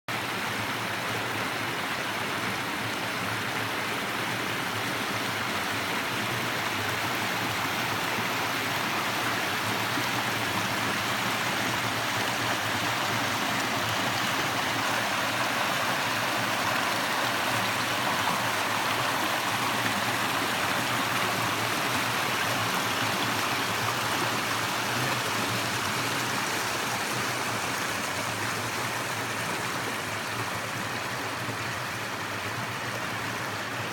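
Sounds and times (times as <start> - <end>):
creek water gurgling over rocks: 0.1 - 33.9.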